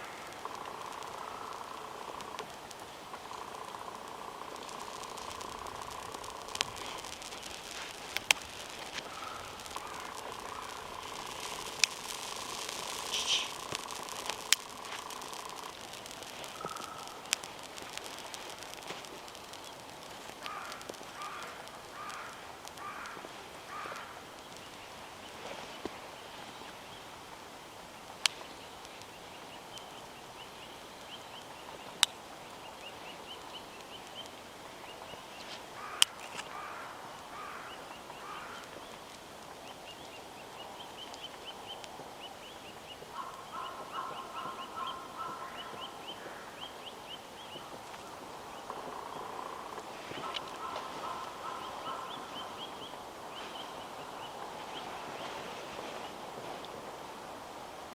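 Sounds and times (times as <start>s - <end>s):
birds calling: 0.0s - 56.4s
wood fire popping: 0.0s - 57.0s.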